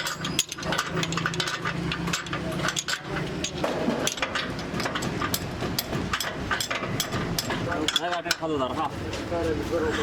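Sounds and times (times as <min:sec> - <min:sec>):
metal-on-metal clinks and knocks: 0:00.0 - 0:08.6.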